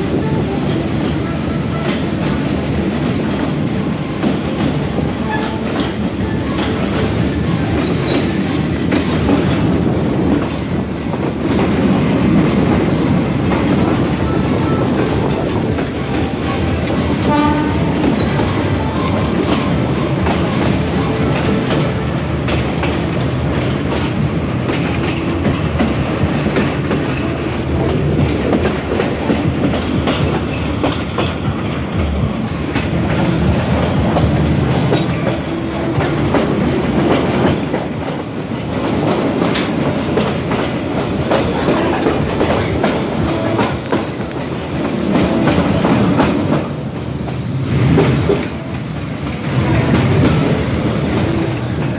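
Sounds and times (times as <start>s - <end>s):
train rumbling: 0.0s - 51.9s
wheels clicking over rail joints: 0.0s - 51.9s.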